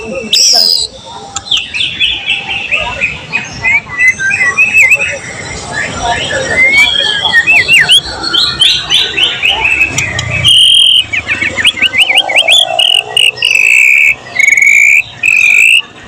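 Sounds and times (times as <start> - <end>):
bird singing varied song: 0.0 - 16.0.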